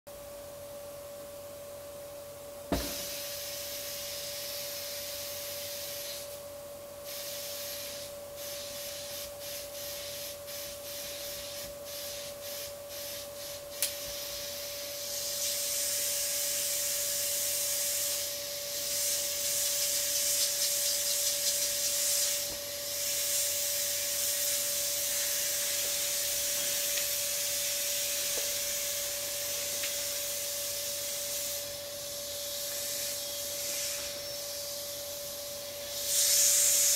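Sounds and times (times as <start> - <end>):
air hissing from inflatable valve: 2.7 - 36.9.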